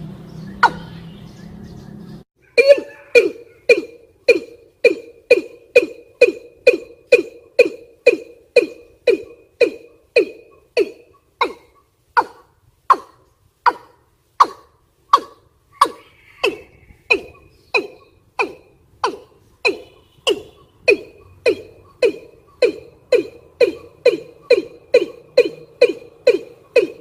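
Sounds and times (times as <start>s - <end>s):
bird calling sharp notes: 0.4s - 27.0s.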